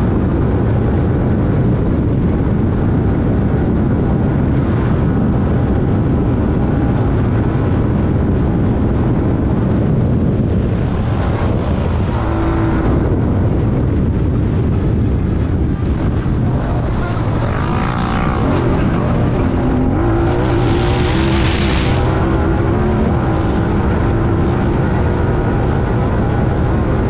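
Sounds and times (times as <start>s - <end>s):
engine running hard: 0.0s - 27.0s
wind and ground noise rumble: 0.0s - 27.0s.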